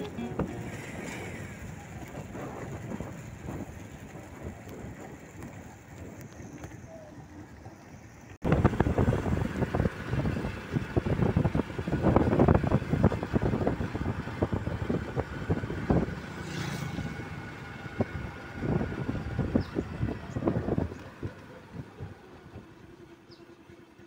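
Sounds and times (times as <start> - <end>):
wind buffeting microphone: 0.0 - 7.4, 8.4 - 22.8
vehicle road noise: 0.0 - 24.0.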